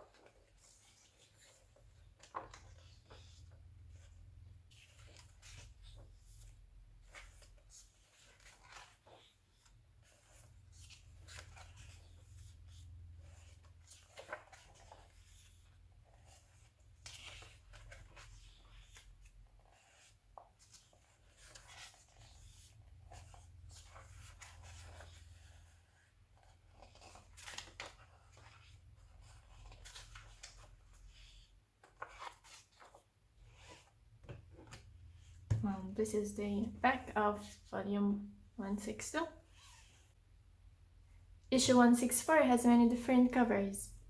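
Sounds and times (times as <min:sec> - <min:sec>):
magazine pages rustling: 0:00.0 - 0:35.5.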